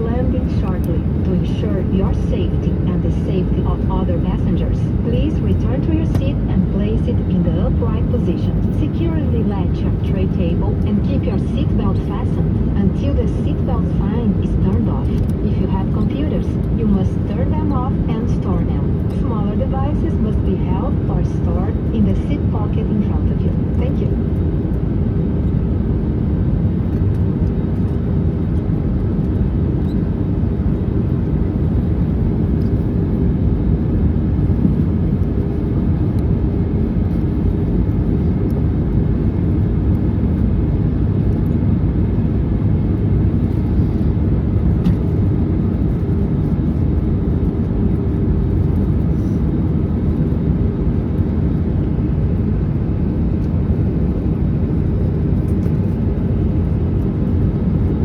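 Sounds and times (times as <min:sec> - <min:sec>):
airliner cabin roar: 0:00.0 - 0:58.0
jet engine hum: 0:00.0 - 0:58.0.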